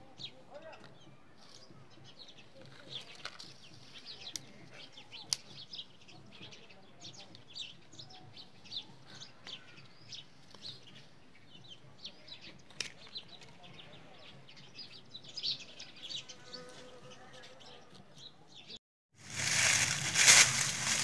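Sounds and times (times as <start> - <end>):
small birds chirping: 0.0 - 18.8.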